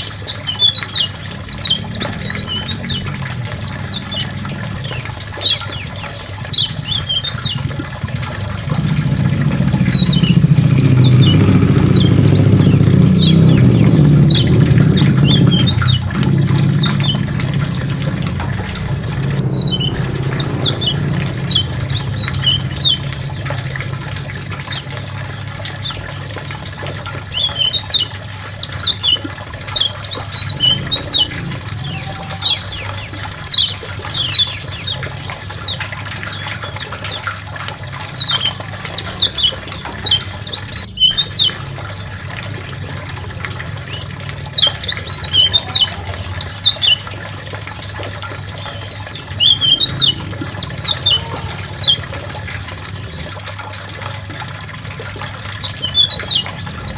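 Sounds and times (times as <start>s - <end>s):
bird singing chattering song: 0.0s - 47.2s, 48.3s - 53.4s, 54.0s - 56.9s
low engine hum: 0.0s - 56.9s.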